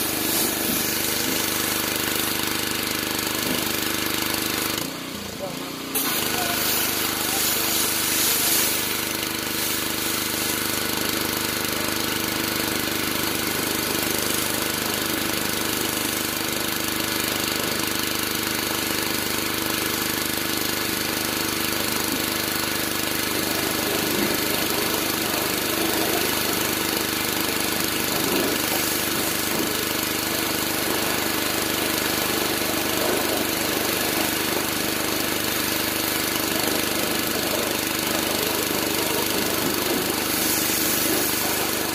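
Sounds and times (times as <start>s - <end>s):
pressure washer spraying: 0.0s - 4.9s, 5.9s - 41.9s.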